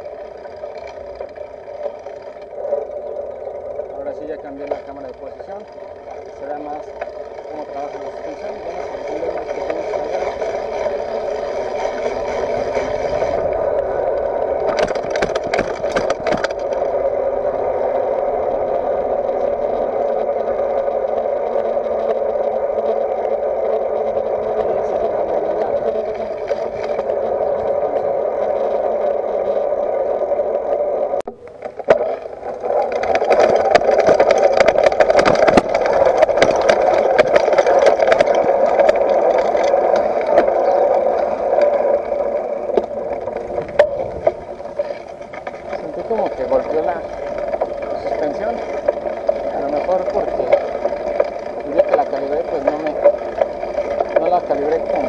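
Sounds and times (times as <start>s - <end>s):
bike rattling over gravel: 0.0s - 55.0s
rushing hum of tyres and wind: 0.0s - 55.0s.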